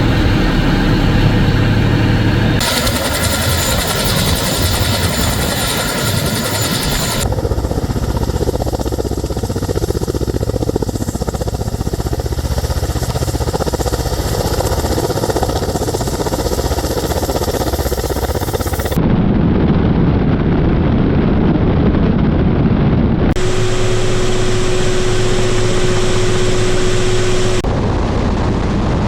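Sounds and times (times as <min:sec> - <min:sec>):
helicopter turbine hiss: 0:00.0 - 0:19.0, 0:23.4 - 0:29.0
helicopter rotors beating: 0:00.0 - 0:29.0.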